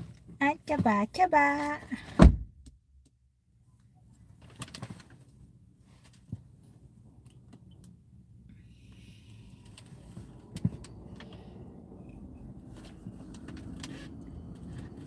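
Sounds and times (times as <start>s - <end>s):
faint low cabin hum: 0.0s - 15.0s.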